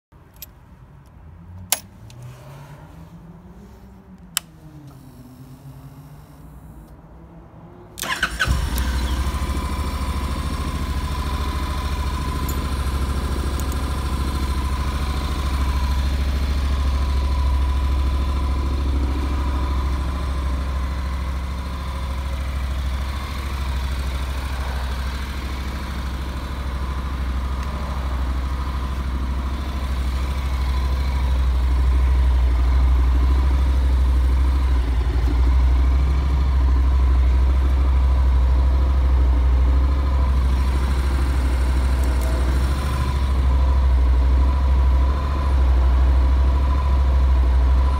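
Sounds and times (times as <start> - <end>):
motorcycle engine starting and idling: 4.2 - 7.1, 7.9 - 47.9.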